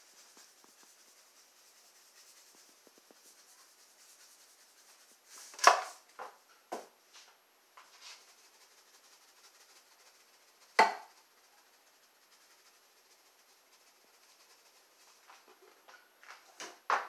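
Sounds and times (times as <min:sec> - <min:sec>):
spice shaker shaking: 0:00.0 - 0:06.2, 0:07.8 - 0:15.8
faint steady hiss: 0:00.0 - 0:17.0.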